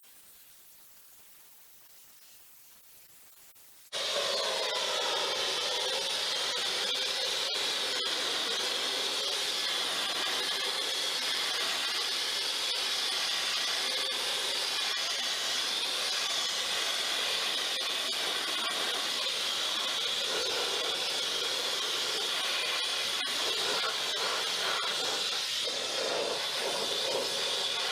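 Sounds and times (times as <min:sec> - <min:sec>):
sandblasting gun hissing: 0:03.8 - 0:27.9.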